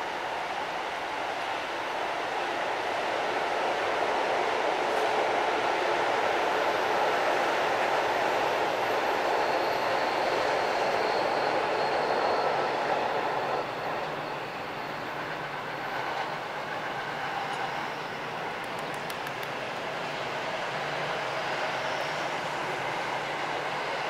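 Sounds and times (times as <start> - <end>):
distant train approaching: 0.0 - 24.0
electric train passing: 0.0 - 24.0.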